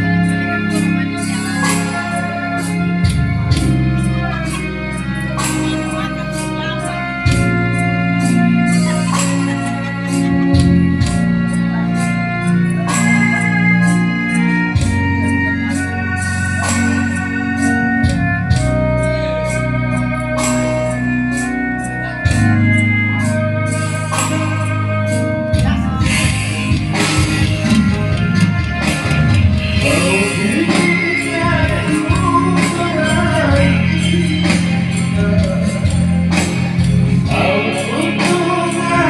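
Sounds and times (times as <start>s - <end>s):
bass line: 0.0s - 39.0s
electronic organ melody: 0.0s - 39.0s.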